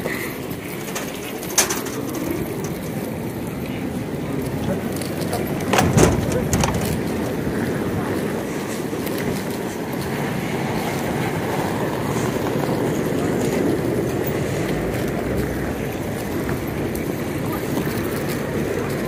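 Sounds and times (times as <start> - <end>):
suitcase wheels rumbling on asphalt: 0.0 - 19.0.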